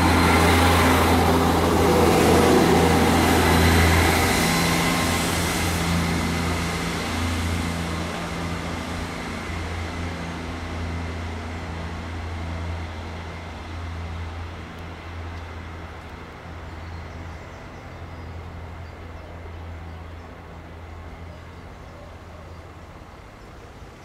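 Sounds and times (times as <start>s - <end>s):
train engine droning: 0.0s - 24.0s.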